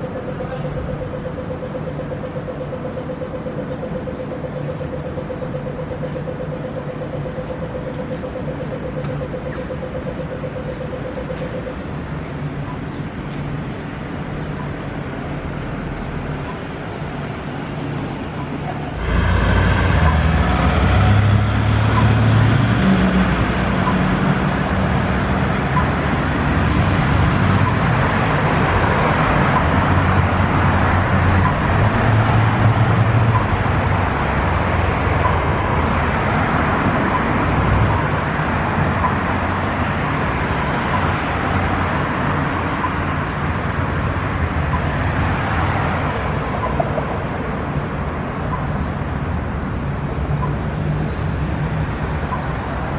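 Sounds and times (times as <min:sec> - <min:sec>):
passing vehicles: 0:00.0 - 0:52.9.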